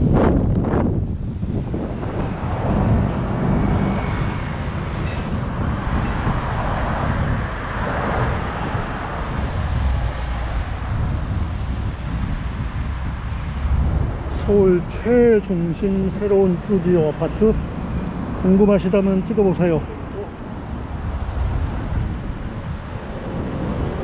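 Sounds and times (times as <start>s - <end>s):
cars driving along road: 0.0s - 24.0s
wind rumbling on microphone: 0.0s - 24.0s.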